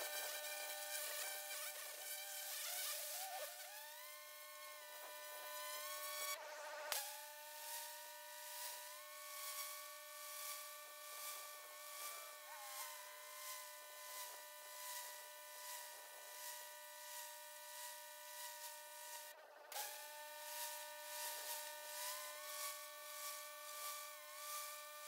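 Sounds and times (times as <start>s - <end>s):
pressure washer spraying concrete: 0.0s - 6.3s, 6.9s - 25.0s
steady multi-tone whine: 0.0s - 25.0s.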